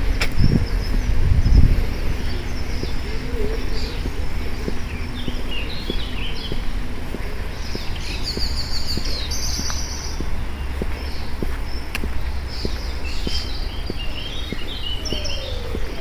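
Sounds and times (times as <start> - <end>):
birds chirping and singing: 0.0 - 16.0
footsteps walking: 0.0 - 16.0
steady low rumble: 0.0 - 16.0.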